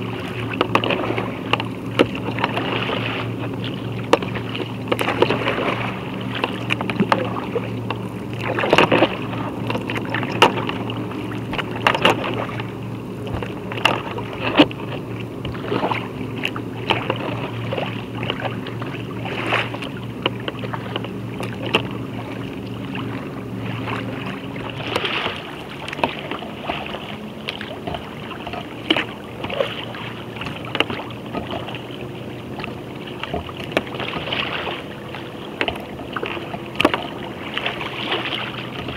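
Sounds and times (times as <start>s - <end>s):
paddle blades splashing: 0.0s - 38.9s
steady low hum: 0.0s - 38.9s
waves slapping a hull: 0.0s - 38.9s.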